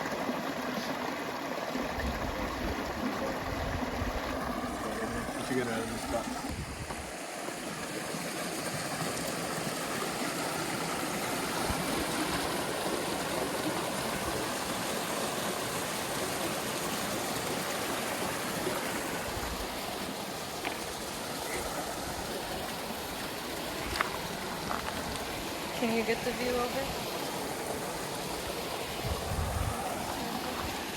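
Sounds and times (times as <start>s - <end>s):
stream water flowing: 0.0s - 30.9s.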